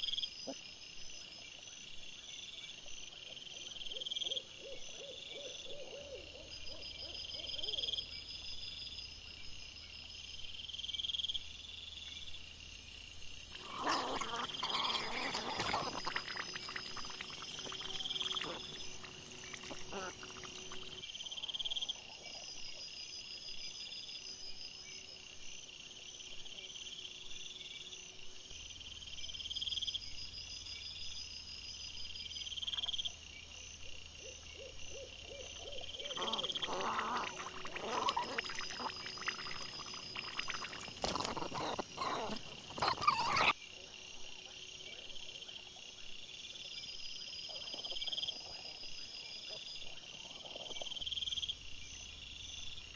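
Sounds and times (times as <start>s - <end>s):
night insects chirping: 0.0s - 52.9s.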